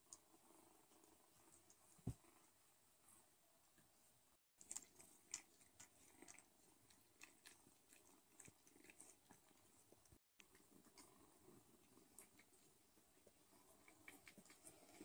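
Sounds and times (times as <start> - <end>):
cat licking and grooming: 0.0 - 15.0.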